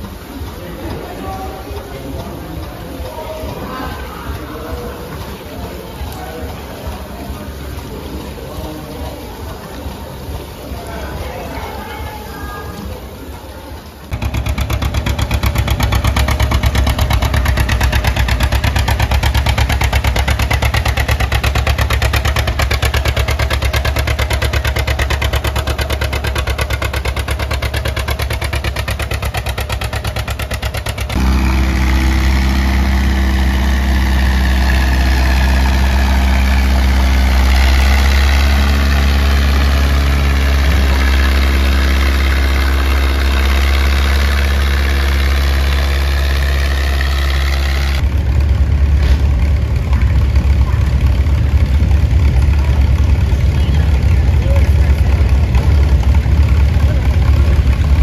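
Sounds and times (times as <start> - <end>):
smoother tractor engine running: 0.0 - 58.0
tractor engine working under load: 0.0 - 58.0.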